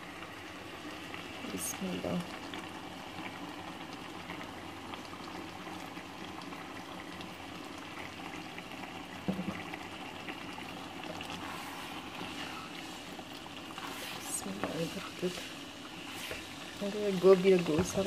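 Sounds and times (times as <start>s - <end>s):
pot bubbling and sizzling: 0.0s - 18.0s.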